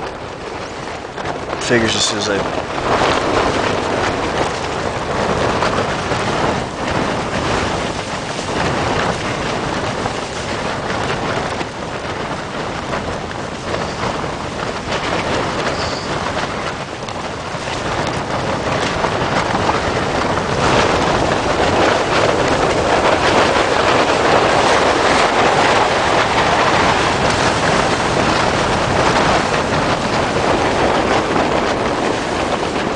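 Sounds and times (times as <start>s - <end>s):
rushing wind: 0.0s - 32.9s
tent fabric flapping: 0.0s - 32.9s.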